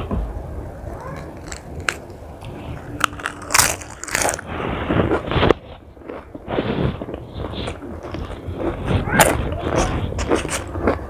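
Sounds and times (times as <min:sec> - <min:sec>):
crunching bite of lettuce: 0:01.1 - 0:11.0
lettuce leaves crinkling: 0:01.1 - 0:11.0.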